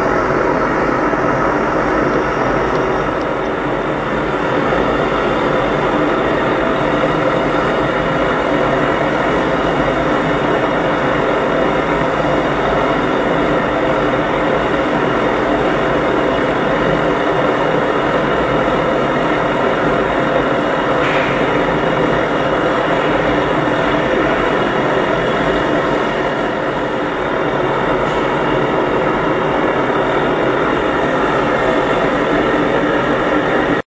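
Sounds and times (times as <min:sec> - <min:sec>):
blowtorch flame rushing: 0:00.0 - 0:33.8.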